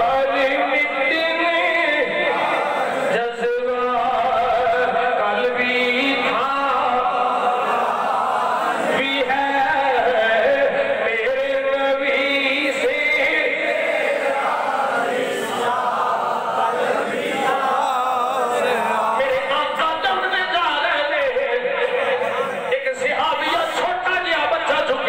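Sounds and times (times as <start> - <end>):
man chanting through a microphone: 0.0 - 25.0.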